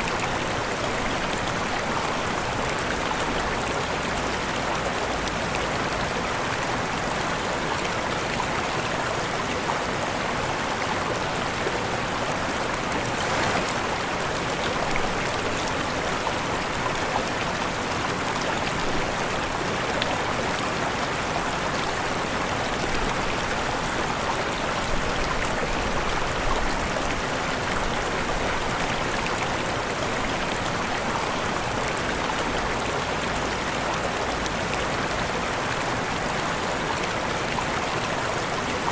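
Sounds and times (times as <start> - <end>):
waterfall: 0.0 - 38.9.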